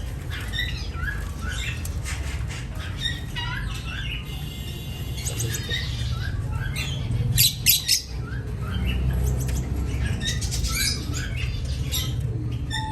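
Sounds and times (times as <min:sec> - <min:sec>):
caged birds chirping: 0:00.0 - 0:12.9.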